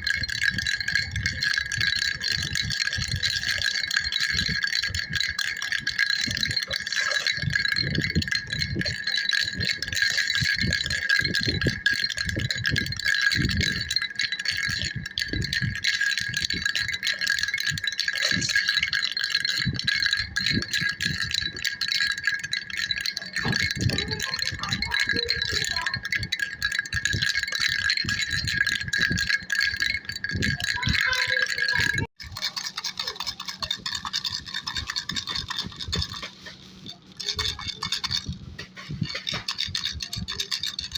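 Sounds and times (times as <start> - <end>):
baby rattle jingling: 0.0 - 40.9.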